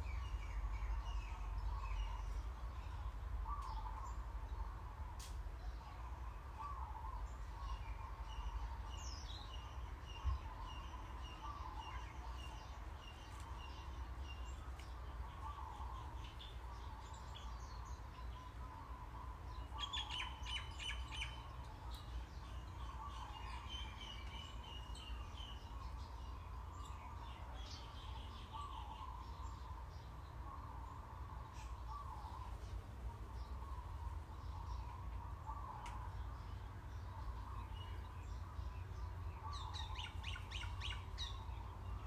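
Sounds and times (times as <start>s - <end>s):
birds chirping and calling: 0.0s - 5.0s, 5.6s - 42.0s.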